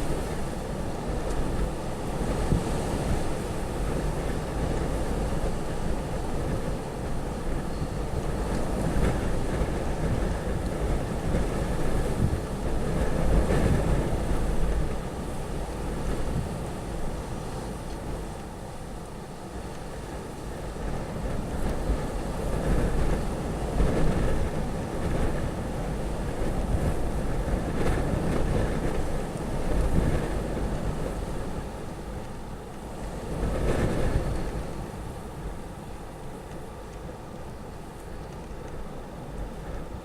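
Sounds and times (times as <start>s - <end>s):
wind gusting on microphone: 0.0s - 40.0s.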